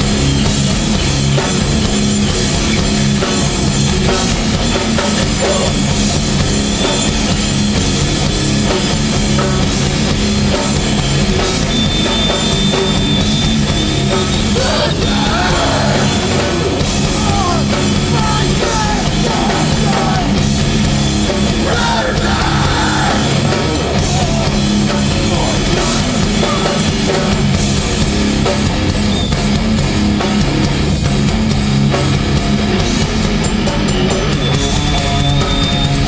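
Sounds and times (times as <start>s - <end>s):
bass guitar: 0.0s - 36.0s
distorted electric guitars: 0.0s - 36.0s
pounding drum kit: 0.0s - 36.0s.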